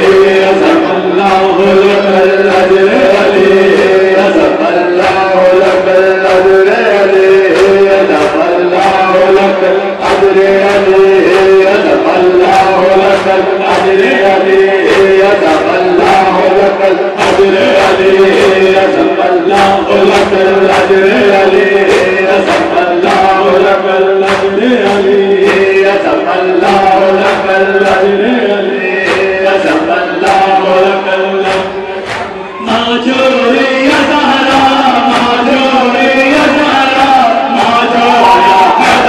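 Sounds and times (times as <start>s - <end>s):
men chanting in unison: 0.0s - 39.0s.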